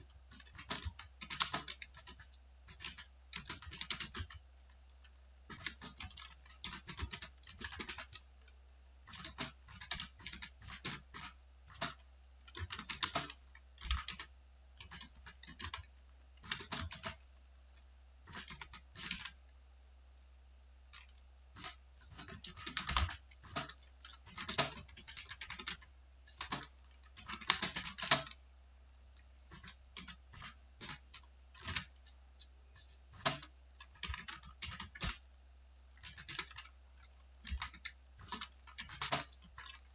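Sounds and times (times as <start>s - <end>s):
computer keyboard typing: 0.0s - 19.5s, 20.9s - 28.4s, 29.2s - 35.2s, 35.9s - 39.9s.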